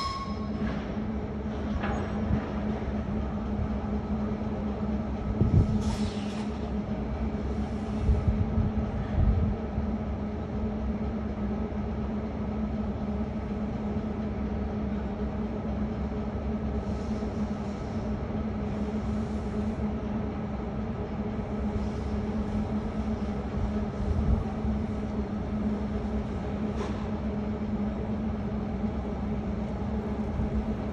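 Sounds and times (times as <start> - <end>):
diesel locomotive engine drone: 0.0 - 30.9.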